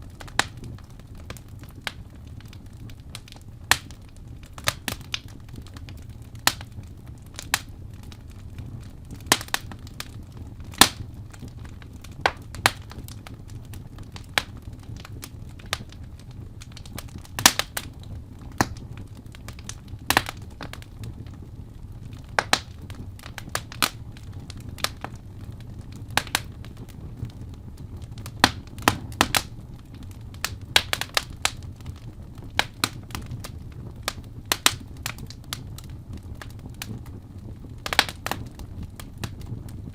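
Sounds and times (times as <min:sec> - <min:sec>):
wood fire crackles and pops: 0:00.0 - 0:39.9.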